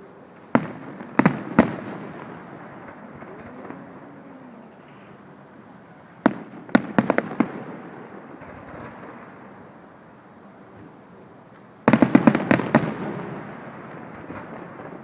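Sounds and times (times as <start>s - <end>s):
fireworks bangs: 0.0s - 10.0s, 11.6s - 15.0s.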